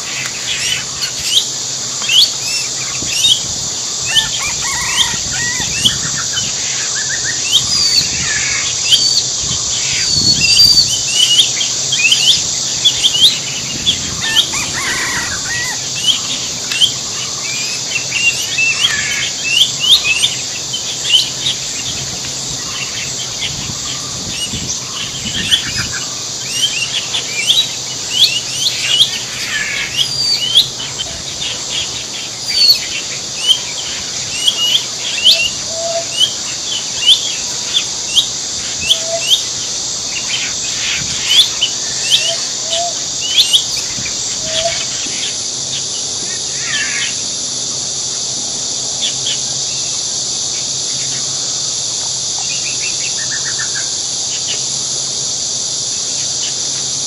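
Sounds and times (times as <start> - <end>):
birds chirping: 0.0 - 47.2
high-pitched insect drone: 0.0 - 57.0.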